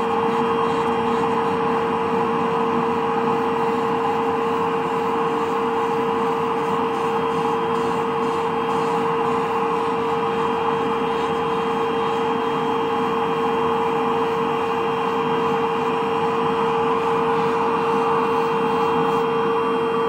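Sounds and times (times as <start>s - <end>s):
podiatry drill whirring: 0.0s - 20.0s.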